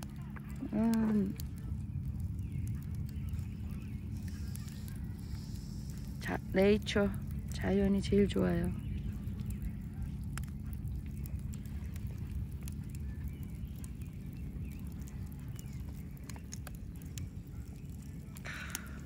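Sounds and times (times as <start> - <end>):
campfire crackling and popping: 0.0 - 19.0
steady low rumble: 0.0 - 19.0.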